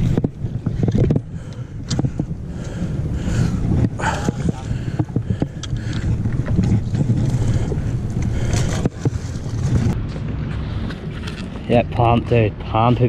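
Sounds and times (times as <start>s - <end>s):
steady low rumble: 0.0s - 13.0s
wind buffeting microphone: 0.0s - 13.0s.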